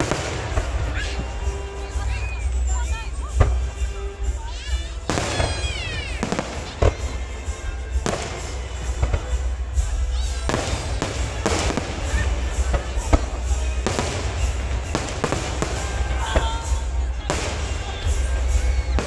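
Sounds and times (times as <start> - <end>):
background music: 0.0 - 19.0
firework whistle: 0.0 - 19.0
fireworks bursting with bangs: 0.0 - 19.0
fireworks crackling: 0.0 - 19.0.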